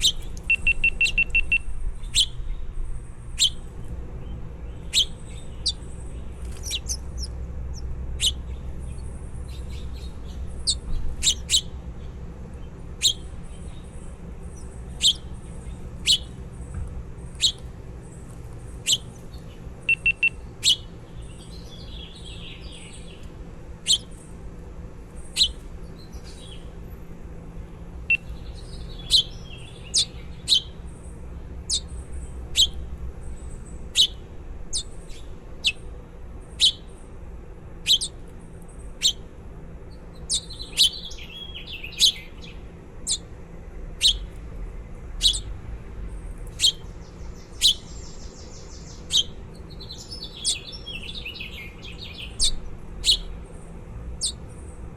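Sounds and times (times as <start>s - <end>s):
baby birds chirping: 0.0s - 26.8s, 27.9s - 39.3s, 39.9s - 43.3s, 43.9s - 44.4s, 45.2s - 45.6s, 46.4s - 54.9s.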